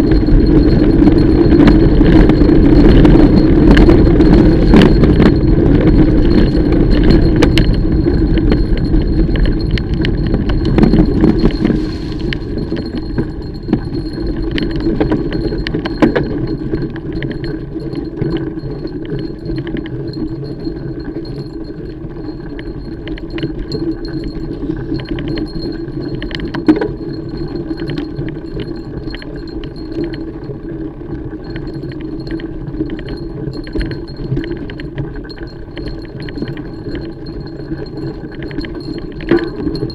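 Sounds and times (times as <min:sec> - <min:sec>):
bike chain rattling and clinking: 0:00.0 - 0:39.9
bike tyres rolling on trail: 0:00.0 - 0:39.9.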